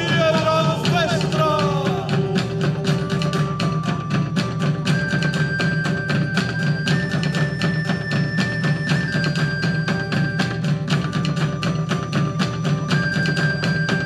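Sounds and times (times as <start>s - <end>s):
fast even drumming: 0.0s - 14.0s
high held melody line: 0.0s - 14.0s.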